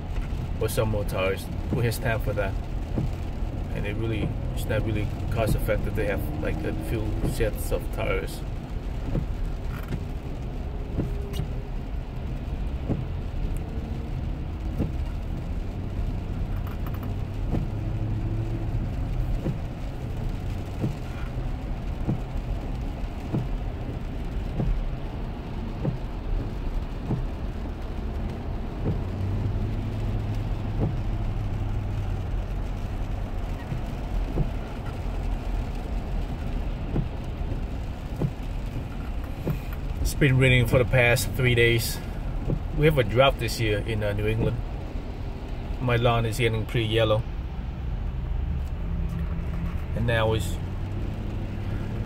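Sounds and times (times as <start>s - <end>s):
low road rumble in car cabin: 0.0s - 52.0s.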